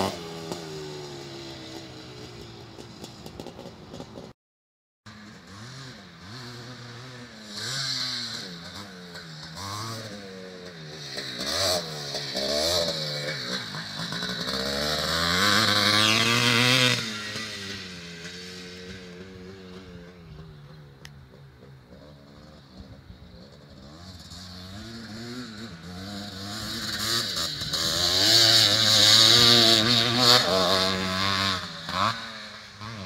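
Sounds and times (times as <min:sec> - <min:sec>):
two-stroke motorcycle engine: 0:00.0 - 0:04.3, 0:05.1 - 0:33.0.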